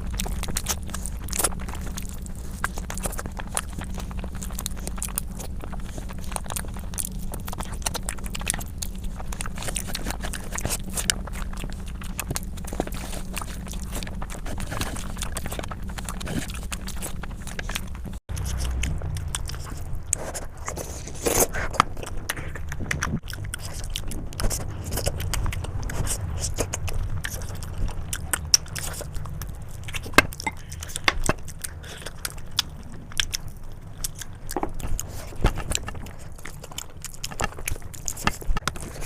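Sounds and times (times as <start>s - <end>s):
chewing and biting food: 0.0s - 39.0s
low steady hum: 0.0s - 39.0s.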